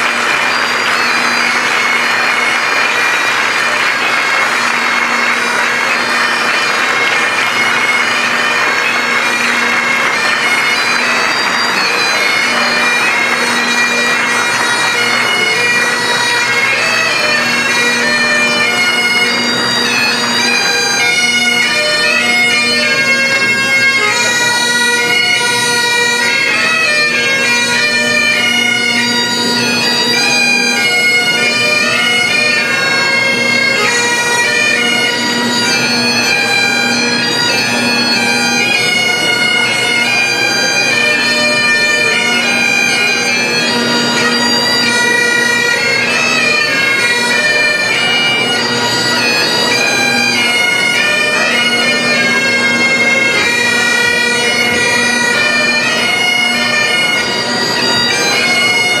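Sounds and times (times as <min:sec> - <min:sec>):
bagpipe drone: 0:00.0 - 0:59.0
bagpipes playing a tune: 0:00.0 - 0:59.0.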